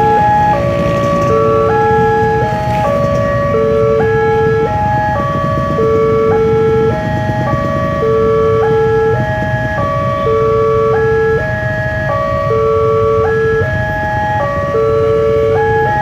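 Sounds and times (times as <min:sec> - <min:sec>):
level-crossing alarm tones: 0:00.0 - 0:16.0
road traffic rumble: 0:00.0 - 0:16.0.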